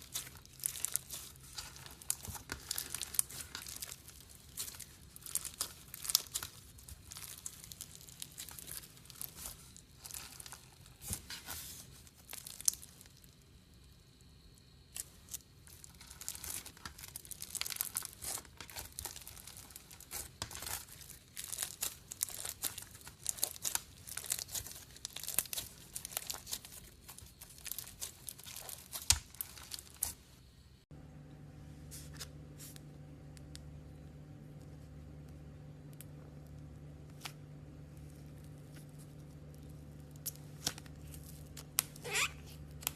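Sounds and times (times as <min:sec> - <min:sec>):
slime crackling and popping: 0:00.0 - 0:30.2, 0:33.3 - 0:42.9.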